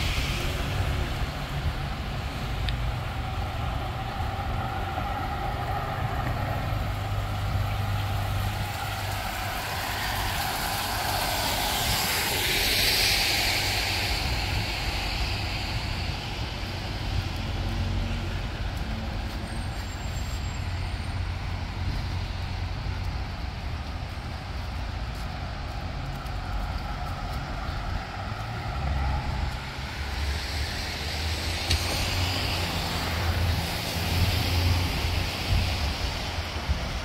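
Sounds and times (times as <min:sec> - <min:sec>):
traffic engines rumbling: 0:00.0 - 0:37.0
tyres hissing on wet pavement: 0:00.0 - 0:37.0.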